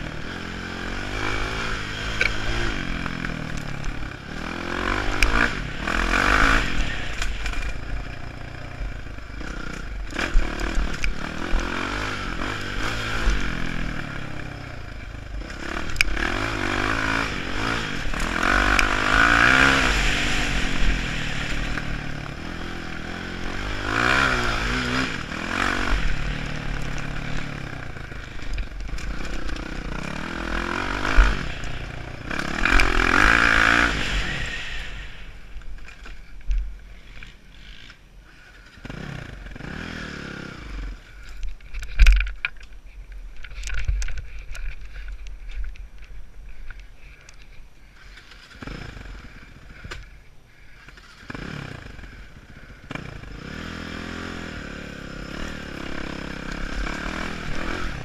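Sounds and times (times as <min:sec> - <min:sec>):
dirt bike engine revving: 0:00.0 - 0:36.3, 0:36.9 - 0:41.4, 0:47.9 - 0:58.0.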